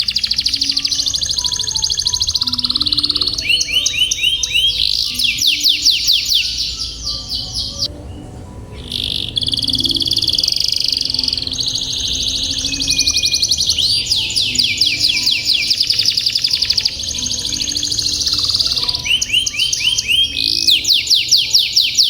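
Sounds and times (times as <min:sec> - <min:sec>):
faint slow low melody: 0:00.0 - 0:20.9
canary singing trills: 0:00.0 - 0:22.0.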